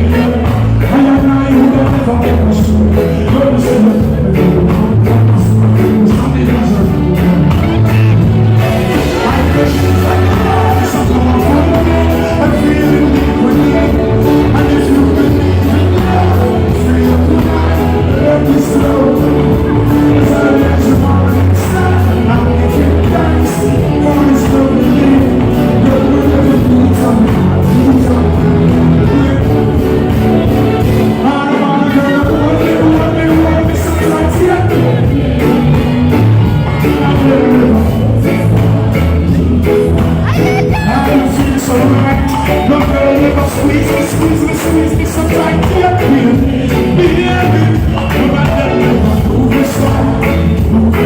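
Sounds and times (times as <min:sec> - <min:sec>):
loud amplified concert music: 0:00.0 - 0:51.0
person singing: 0:00.0 - 0:51.0.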